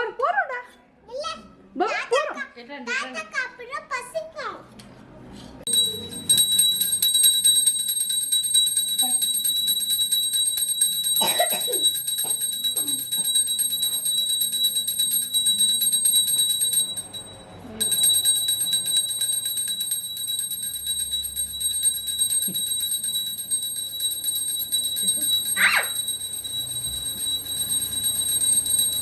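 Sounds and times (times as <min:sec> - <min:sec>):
small hand bell ringing: 0:05.7 - 0:29.0.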